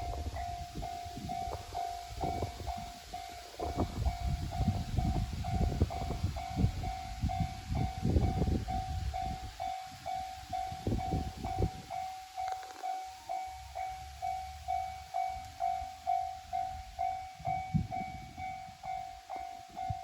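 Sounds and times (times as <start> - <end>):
level-crossing alarm ringing: 0.0 - 20.0.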